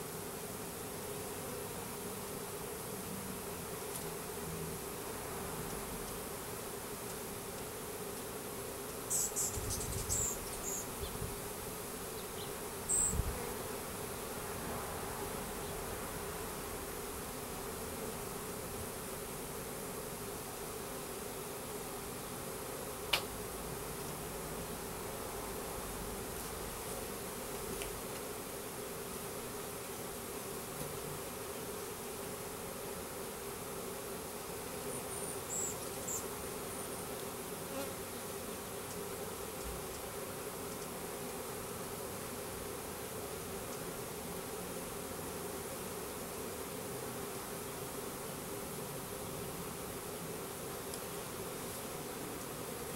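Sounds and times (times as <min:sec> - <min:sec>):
bees buzzing: 0:00.0 - 0:52.9.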